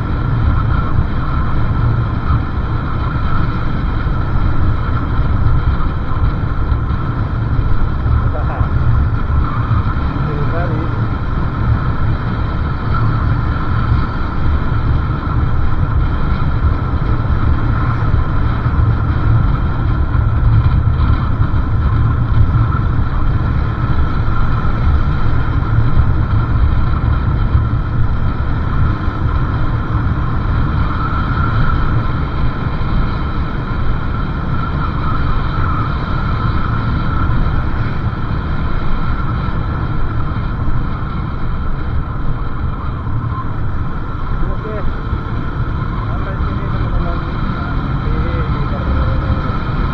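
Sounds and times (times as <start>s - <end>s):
motorcycle engine: 0.0s - 49.9s
wind buffeting microphone: 0.0s - 49.9s.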